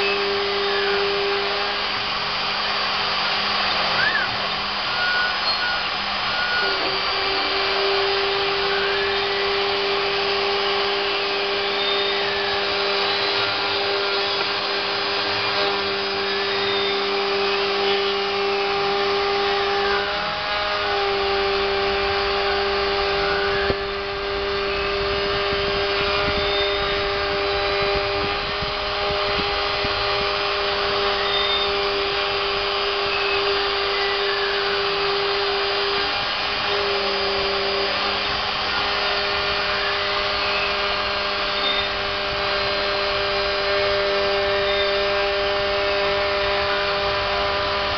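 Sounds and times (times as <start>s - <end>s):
motor tones rising and falling: 0.0s - 47.9s
router spindle whining: 0.0s - 47.9s.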